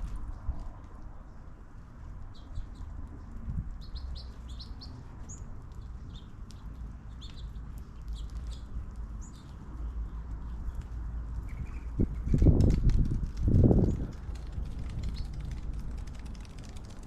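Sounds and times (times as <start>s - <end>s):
small birds chirping: 1.1s - 12.8s, 13.6s - 16.2s.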